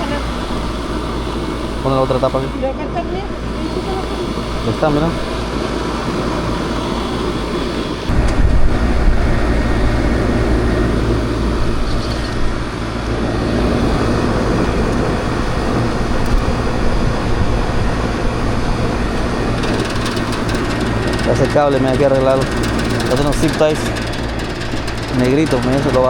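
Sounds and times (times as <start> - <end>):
air conditioner hum and fan rush: 0.0 - 26.0.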